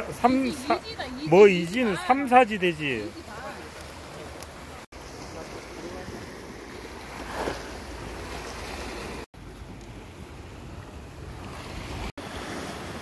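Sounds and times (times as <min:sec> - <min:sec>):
waves breaking on rocky shore: 0:00.0 - 0:13.0.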